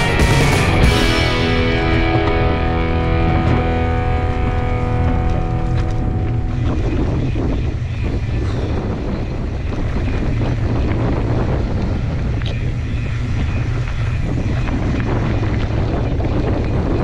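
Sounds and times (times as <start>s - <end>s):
wind buffeting microphone: 0.0s - 17.0s
bike clicks and rattles: 2.0s - 17.0s.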